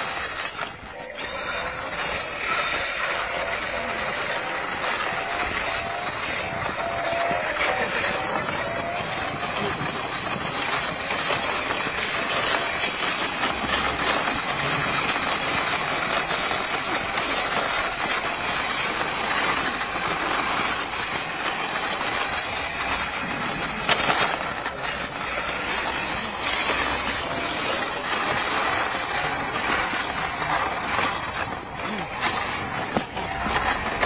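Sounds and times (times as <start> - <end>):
toy car motor whirring: 0.0 - 34.0.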